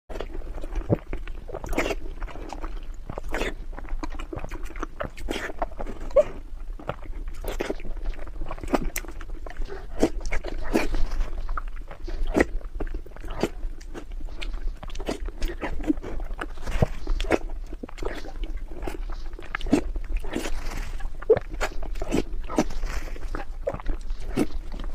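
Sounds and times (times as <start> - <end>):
cat chewing and crunching food: 0.1 - 24.9.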